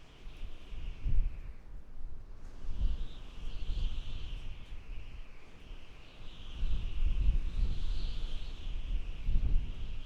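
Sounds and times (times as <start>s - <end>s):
howling wind: 0.3s - 10.0s.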